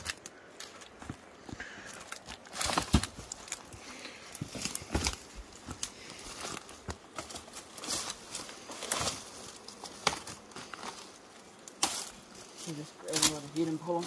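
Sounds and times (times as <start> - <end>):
clothing brushing vegetation: 0.0 - 14.0
leaves and twigs rustling: 0.0 - 14.0.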